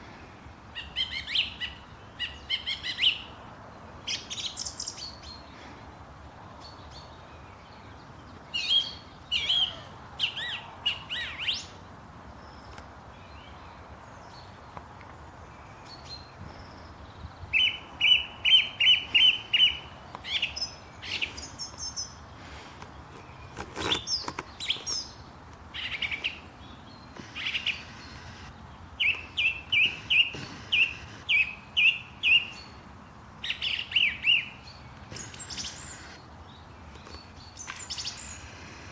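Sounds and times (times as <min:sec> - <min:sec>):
faint outdoor hiss: 0:00.0 - 0:38.9
small birds chirping: 0:06.6 - 0:38.9.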